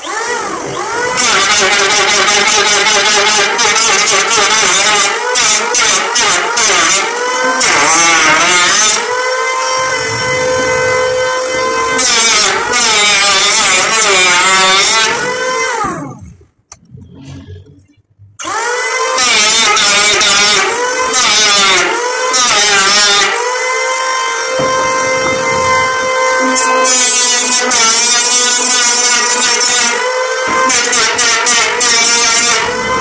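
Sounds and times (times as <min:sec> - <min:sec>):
electric planer shaving wood: 0:00.0 - 0:16.2, 0:18.4 - 0:33.0.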